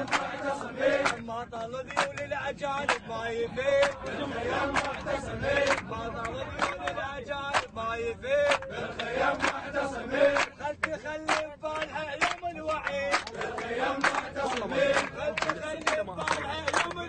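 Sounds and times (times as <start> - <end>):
sharp claps: 0.0 - 3.1, 3.8 - 7.8, 8.4 - 17.0
young men chanting in unison: 0.0 - 17.0.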